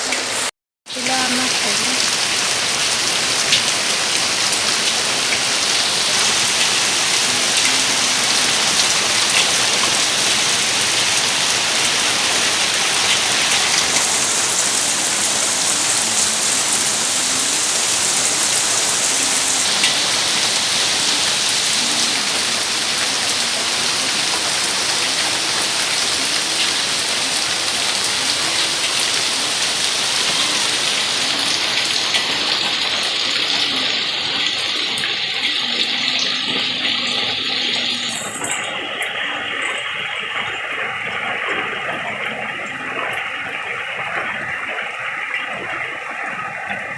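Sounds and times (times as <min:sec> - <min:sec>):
heavy rain falling: 0:00.0 - 0:46.9
raindrops ticking: 0:00.9 - 0:46.9.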